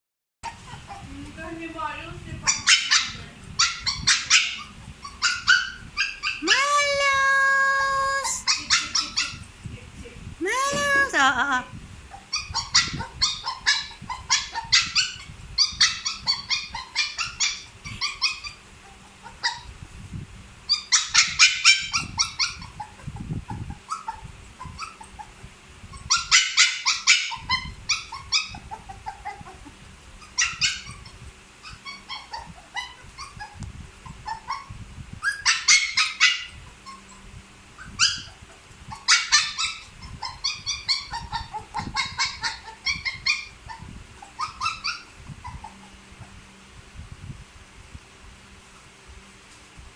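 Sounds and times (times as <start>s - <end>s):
puppy yipping and whimpering: 0.4s - 1.1s, 2.4s - 9.5s, 12.1s - 19.7s, 20.7s - 46.4s.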